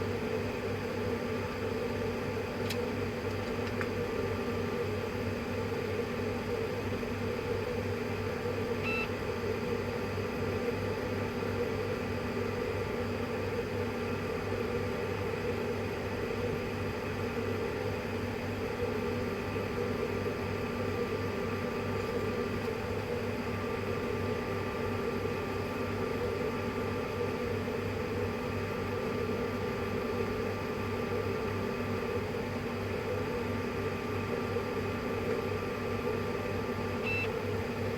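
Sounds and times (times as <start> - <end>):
printer mechanical hum and whine: 0.0 - 37.9.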